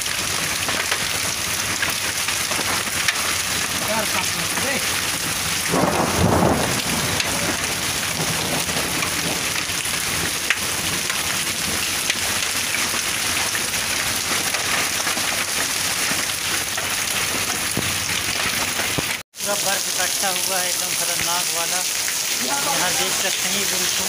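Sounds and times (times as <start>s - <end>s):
hailstones ticking: 0.0s - 24.0s
heavy rain hissing: 0.0s - 24.0s.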